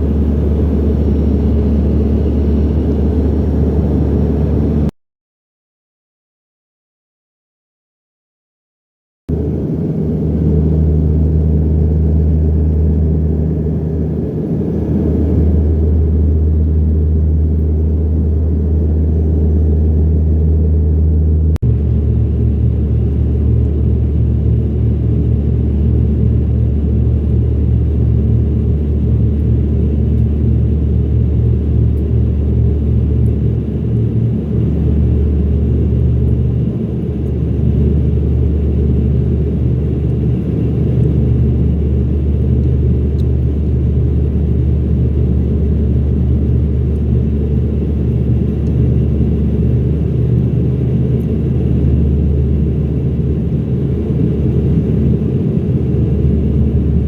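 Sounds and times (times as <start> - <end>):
turboprop engines droning in cabin: 0.0 - 4.9, 9.3 - 57.0.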